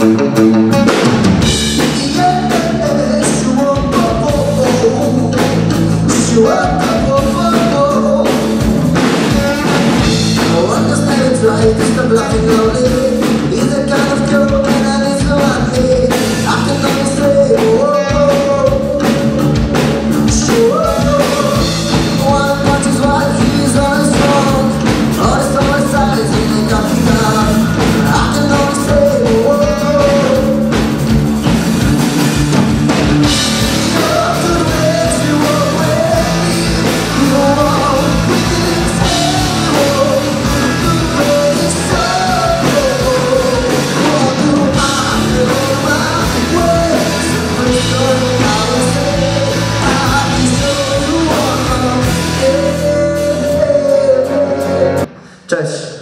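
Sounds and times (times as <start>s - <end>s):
man singing: 0.0s - 31.1s, 33.2s - 56.0s
bass guitar: 0.0s - 55.3s
electric guitar: 0.0s - 55.3s
drum kit: 0.0s - 56.0s.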